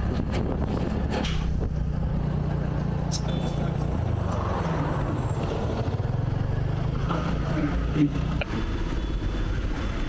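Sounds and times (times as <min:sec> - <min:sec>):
road and traffic noise: 0:00.0 - 0:10.0.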